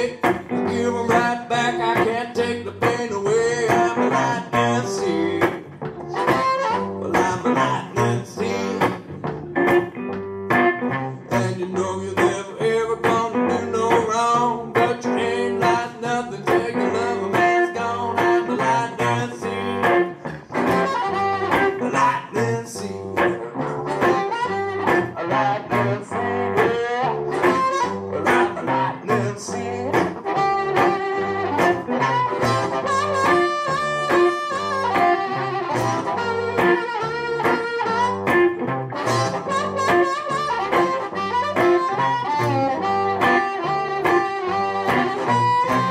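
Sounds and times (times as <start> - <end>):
electric guitar blues: 0.0 - 45.9
harmonica wailing: 0.0 - 45.9.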